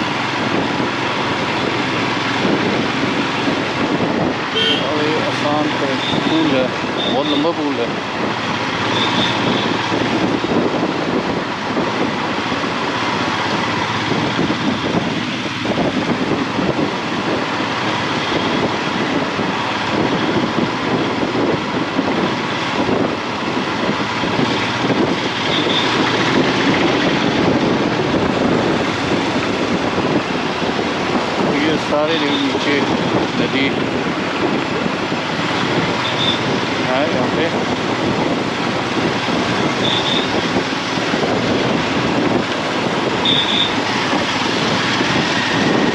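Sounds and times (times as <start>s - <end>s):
motorcycle riding through traffic: 0.0s - 45.9s.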